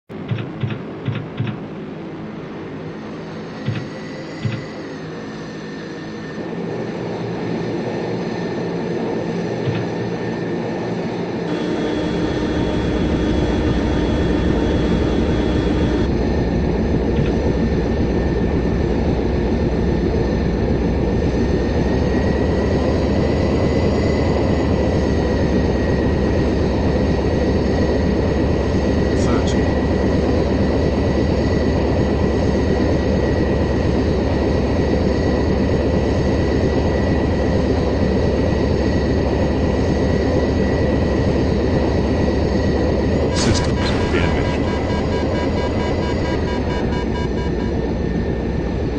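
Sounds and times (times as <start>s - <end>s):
jet engine whine and rumble: 0.1s - 48.9s.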